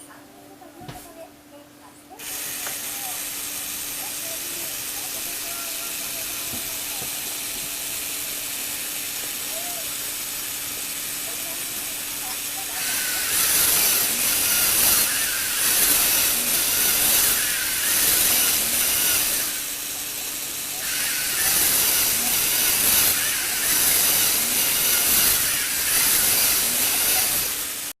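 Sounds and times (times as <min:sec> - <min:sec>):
toy motor and gears whining: 0:02.2 - 0:28.0.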